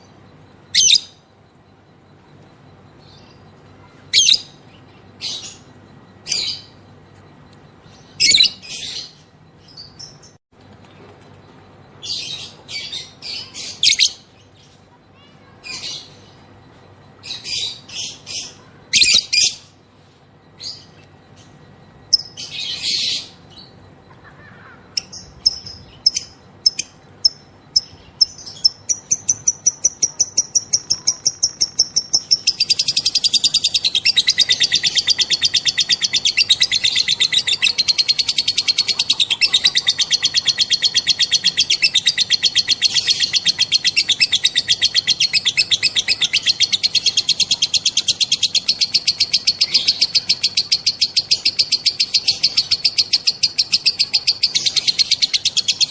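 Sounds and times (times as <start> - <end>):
lovebird chirping and trilling: 0.0 - 1.4, 2.8 - 7.0, 7.8 - 10.4, 12.0 - 16.6, 17.2 - 19.8, 20.5 - 55.9.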